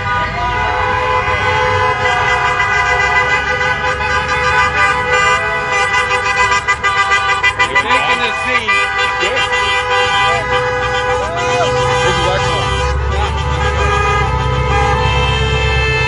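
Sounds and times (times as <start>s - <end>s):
horn toots: 0.0s - 16.0s
vehicle horns blaring: 0.0s - 16.0s.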